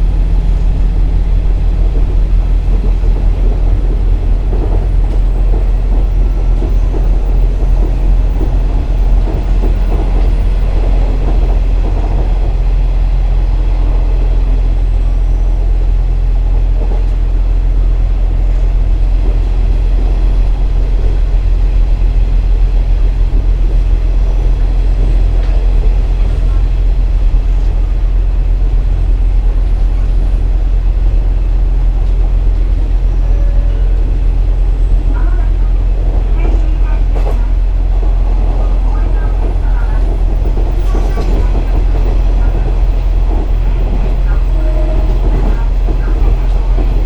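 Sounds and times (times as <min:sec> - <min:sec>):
diesel engine drone: 0:00.0 - 0:47.0
wheels rumbling on rails: 0:00.0 - 0:47.0.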